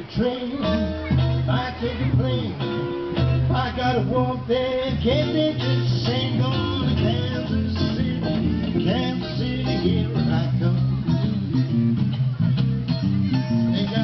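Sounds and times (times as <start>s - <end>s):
bass line: 0.0s - 14.0s
live band guitar music: 0.0s - 14.0s.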